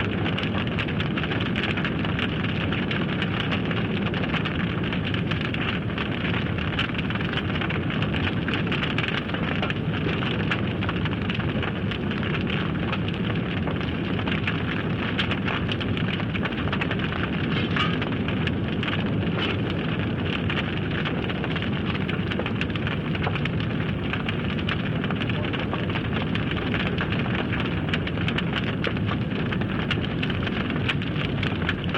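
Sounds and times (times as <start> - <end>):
large fire roaring and crackling: 0.0 - 31.9.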